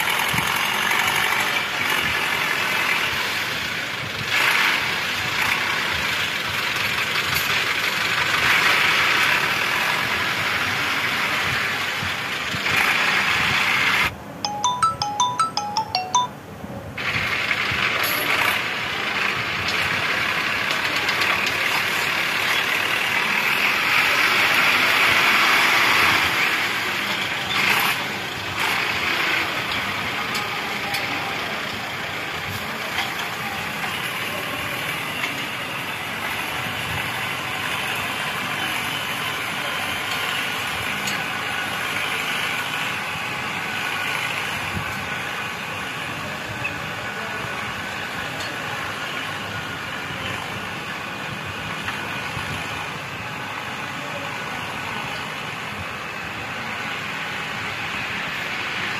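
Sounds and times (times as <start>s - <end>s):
tractor diesel engine under load: 0.0s - 14.4s, 16.9s - 58.9s.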